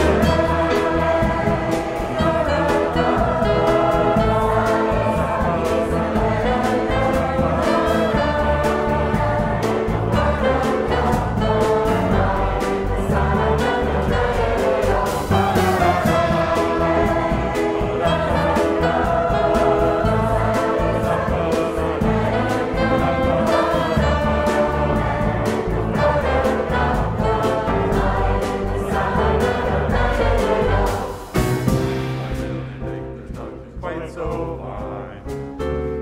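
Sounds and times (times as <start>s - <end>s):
trombone: 0.0s - 32.8s
mixed choir singing: 0.0s - 33.2s
drums keeping a steady beat: 0.0s - 35.9s
double bass: 0.0s - 36.0s
piano: 0.0s - 36.0s.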